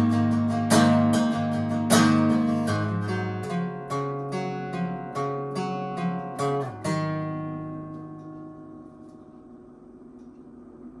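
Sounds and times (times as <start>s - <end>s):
acoustic guitar strum and ringing chord: 0.0s - 9.6s.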